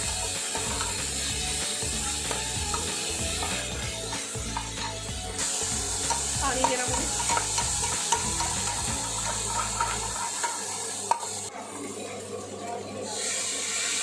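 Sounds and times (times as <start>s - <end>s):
spatula scraping pan: 0.0s - 11.4s
vegetables sizzling in oil: 0.0s - 11.6s, 13.0s - 14.0s.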